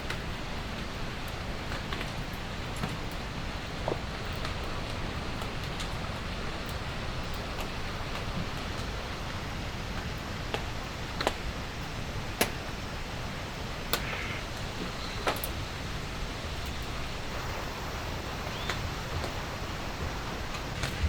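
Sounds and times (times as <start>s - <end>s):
raindrops ticking close by: 0.0s - 21.0s
steady rain falling: 0.0s - 21.0s.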